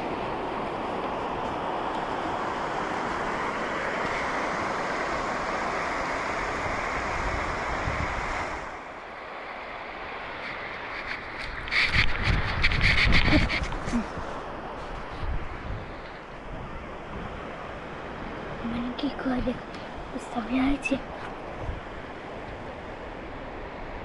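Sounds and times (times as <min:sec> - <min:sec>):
wind on microphone: 0:00.0 - 0:09.0, 0:09.9 - 0:24.0
ocean surf washing on shore: 0:00.0 - 0:24.0.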